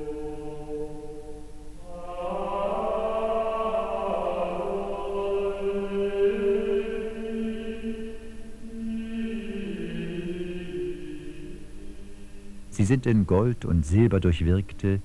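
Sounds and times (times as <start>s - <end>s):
slow choral chant: 0.0s - 13.4s.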